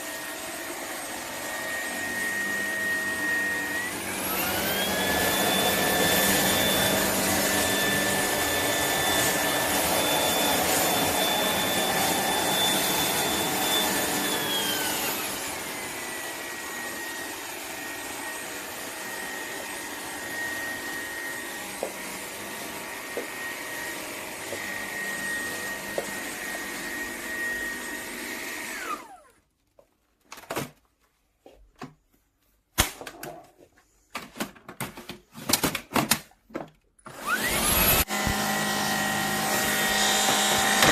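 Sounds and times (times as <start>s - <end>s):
stick vacuum motor whine: 0.0s - 29.4s, 37.1s - 40.9s.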